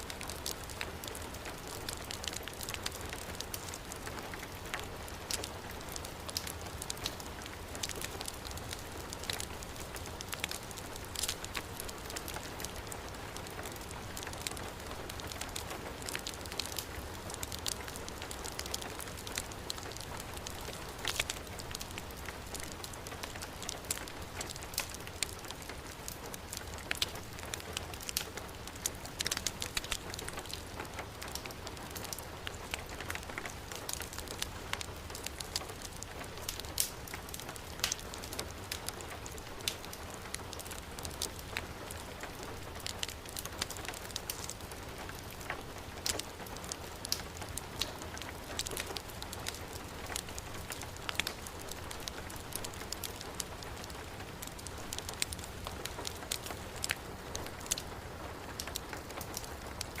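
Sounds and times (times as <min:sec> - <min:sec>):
heavy rain: 0:00.0 - 1:00.0
wood fire crackling: 0:00.0 - 1:00.0.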